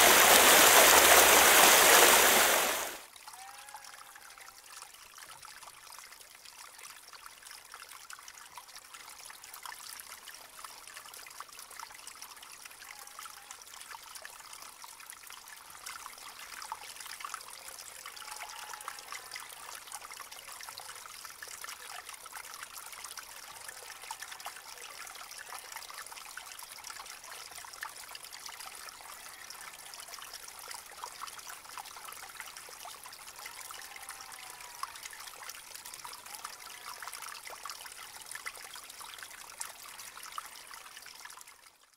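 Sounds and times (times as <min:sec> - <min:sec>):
stream trickling: 0:00.0 - 0:41.9.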